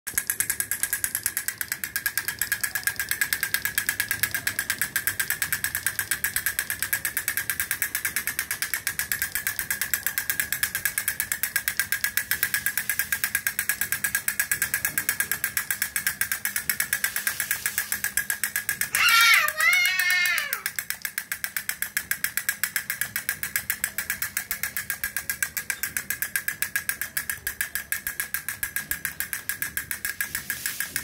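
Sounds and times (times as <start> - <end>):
toy sticks tapping plastic drum: 0.1 - 31.0
wind-up gear whirring: 0.1 - 31.0.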